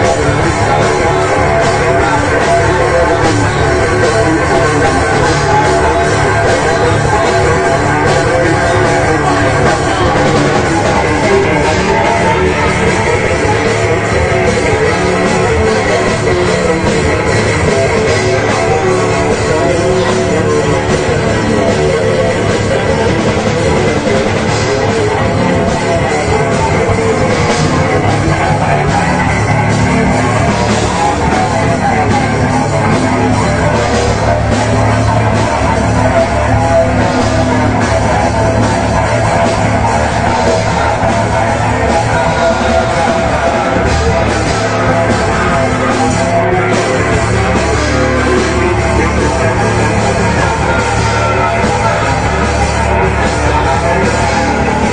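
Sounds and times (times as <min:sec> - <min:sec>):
heavy metal band playing live: 0:00.0 - 0:54.9.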